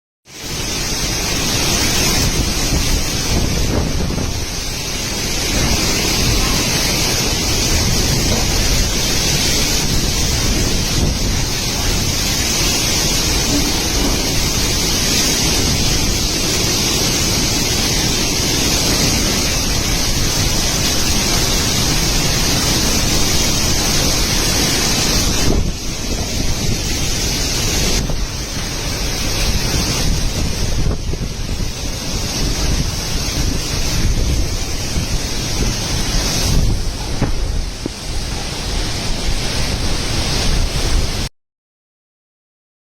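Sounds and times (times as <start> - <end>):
strong gusty wind buffeting microphone: 0.3 - 41.3.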